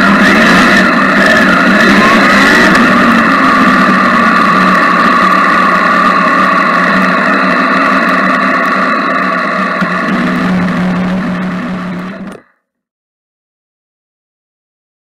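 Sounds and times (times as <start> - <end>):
motorcycle engine at low revs: 0.0 - 12.5.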